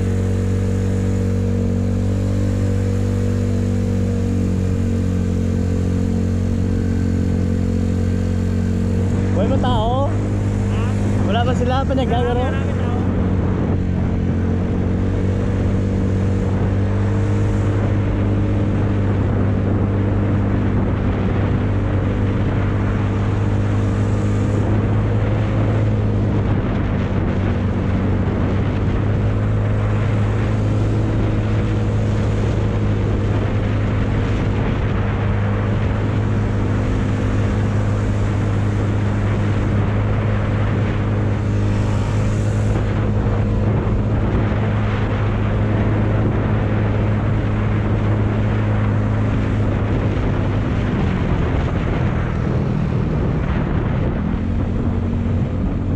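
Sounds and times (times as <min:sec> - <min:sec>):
motor scooter engine running: 0:00.0 - 0:55.9
wind rushing over microphone: 0:00.0 - 0:55.9.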